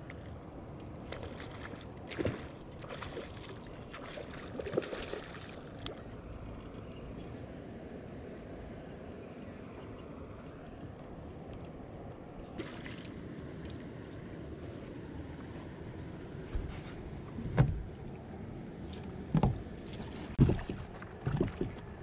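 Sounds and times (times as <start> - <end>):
water lapping at hull: 0.0 - 6.8, 9.7 - 22.0.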